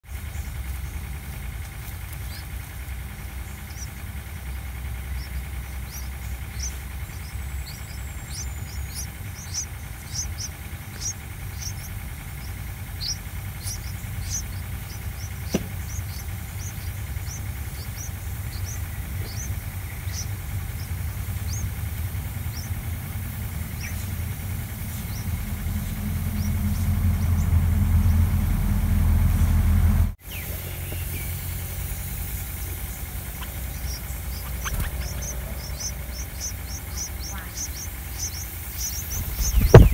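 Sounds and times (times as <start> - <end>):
nestlings begging calls: 0.1 - 29.4, 30.2 - 39.9
low rumble: 0.1 - 39.9.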